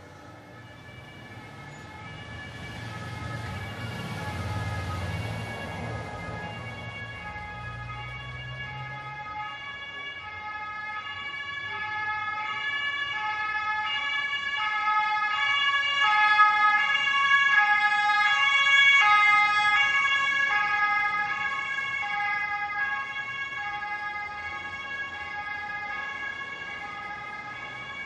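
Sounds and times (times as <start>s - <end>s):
ambulance two-tone siren: 0.0s - 28.0s.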